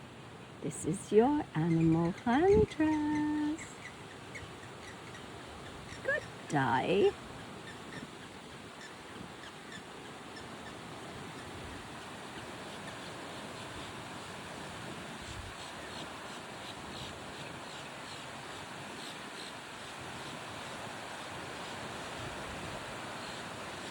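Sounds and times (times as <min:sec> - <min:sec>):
wind-like noise: 0:03.6 - 0:23.9.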